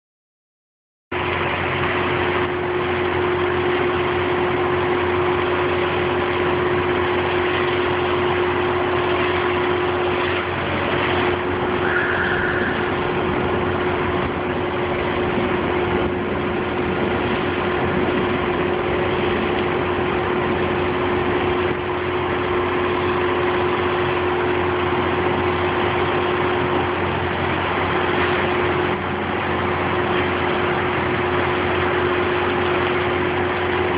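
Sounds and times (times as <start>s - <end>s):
truck engine running: 1.1s - 33.9s.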